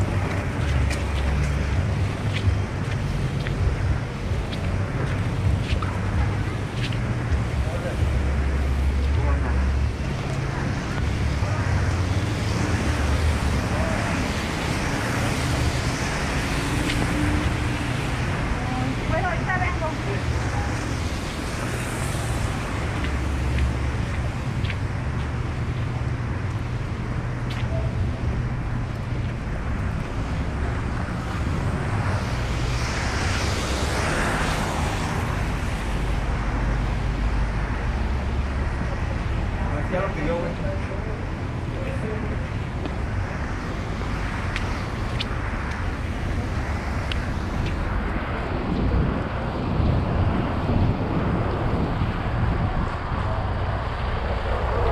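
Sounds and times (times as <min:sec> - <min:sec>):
tyres hissing on wet road: 0:00.0 - 0:27.4, 0:28.4 - 0:54.9
street traffic rumble: 0:00.0 - 0:54.9.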